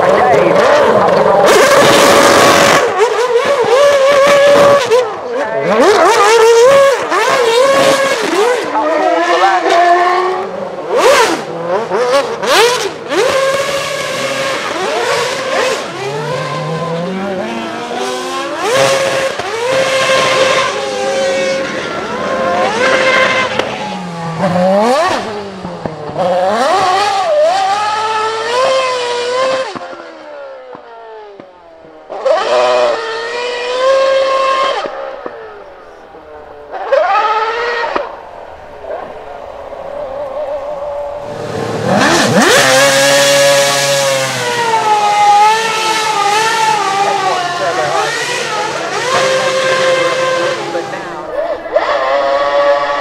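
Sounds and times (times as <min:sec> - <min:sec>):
racing car engine revving: 0:00.0 - 0:53.0.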